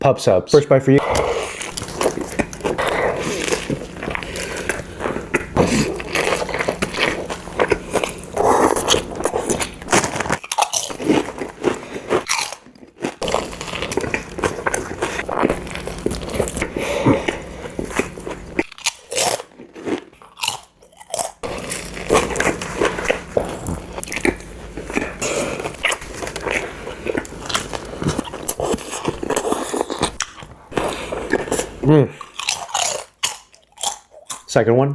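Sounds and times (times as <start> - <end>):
crunchy sandwich bites and chewing: 1.0 - 34.5.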